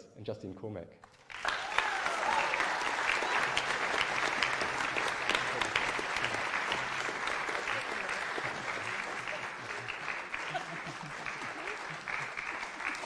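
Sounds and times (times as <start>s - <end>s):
audience applause: 1.1s - 13.0s.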